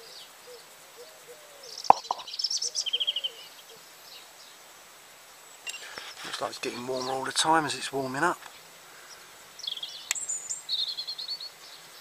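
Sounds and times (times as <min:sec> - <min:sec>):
faint lower bird calls: 0:00.0 - 0:04.6, 0:05.5 - 0:07.6, 0:08.4 - 0:12.0
small birds chirping: 0:00.0 - 0:12.0.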